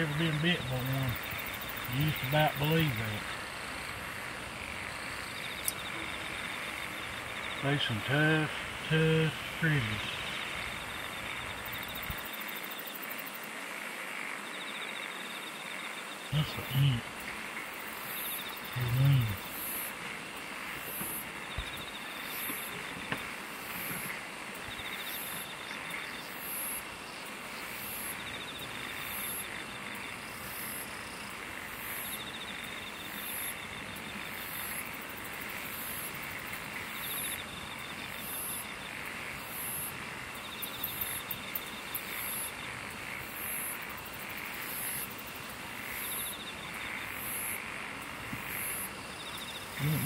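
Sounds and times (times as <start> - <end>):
insect buzz: 0.0 - 50.0
insect trill: 0.0 - 50.0
insects high pulsing call: 0.0 - 50.0.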